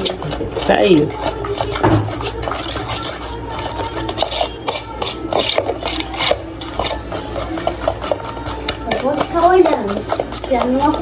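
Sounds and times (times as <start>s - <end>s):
utensil stirring batter in bowl: 0.0s - 11.0s.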